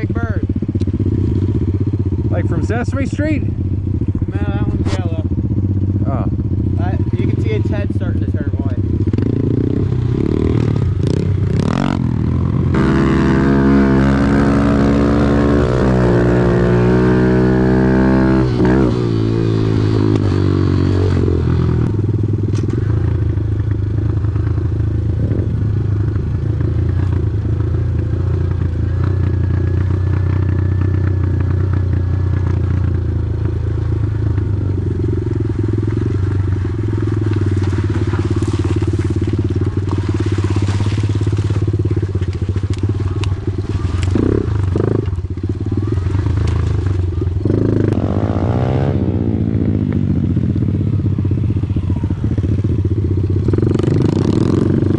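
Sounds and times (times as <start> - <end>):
off-road vehicle engine running: 0.0 - 54.9.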